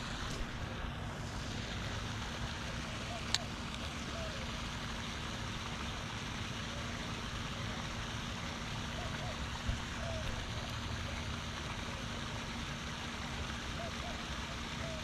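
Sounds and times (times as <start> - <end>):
fountain splashing: 0.0 - 15.0.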